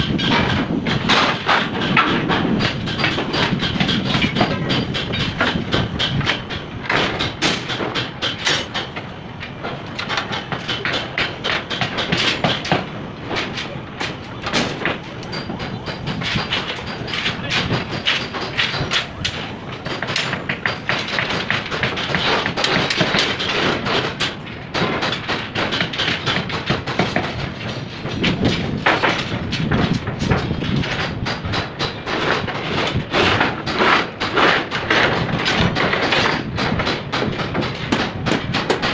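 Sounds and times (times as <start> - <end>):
construction knocks and clatter: 0.0 - 38.9.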